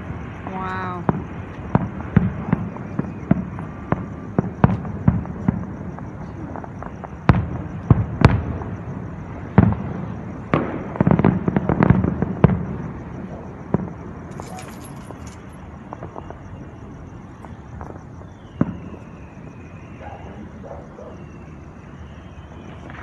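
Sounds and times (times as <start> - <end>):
fireworks crackling pops: 0.0 - 16.6, 17.4 - 19.8, 22.6 - 23.0
fireworks bangs: 0.0 - 23.0.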